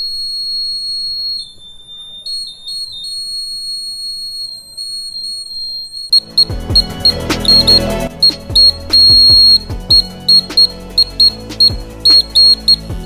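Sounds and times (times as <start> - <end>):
high-pitched alarm buzzer tone: 2.3 - 12.9.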